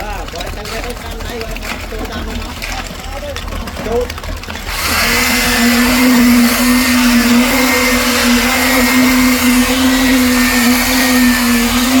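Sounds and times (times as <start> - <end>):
machine droning hum: 0.9 - 12.0.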